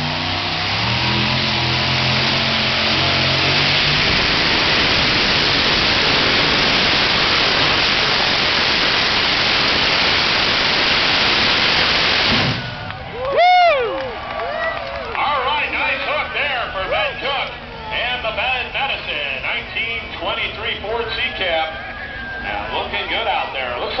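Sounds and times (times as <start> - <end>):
truck engine running flat out: 0.0 - 24.0.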